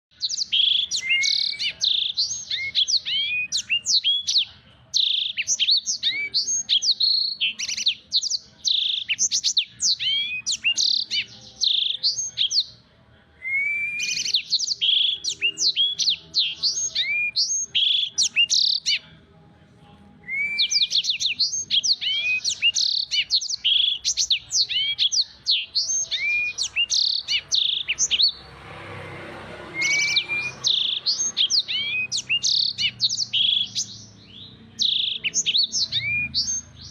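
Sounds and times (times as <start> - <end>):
canary singing: 0.1 - 19.4, 20.2 - 36.9.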